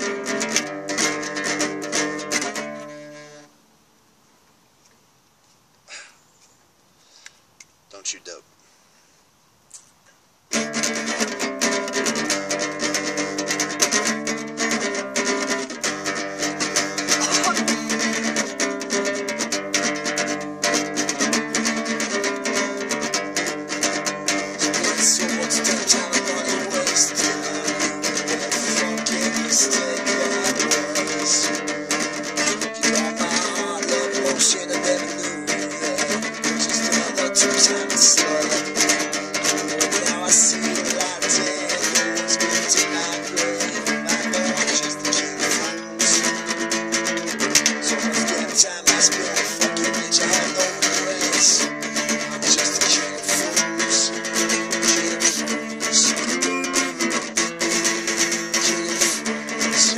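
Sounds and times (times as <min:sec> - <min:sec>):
acoustic guitar strumming chords: 0:00.0 - 0:03.7, 0:10.5 - 0:59.9.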